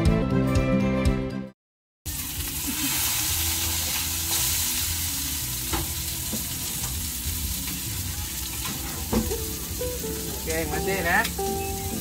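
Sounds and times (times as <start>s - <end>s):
meat sizzling on a griddle: 2.1s - 12.0s.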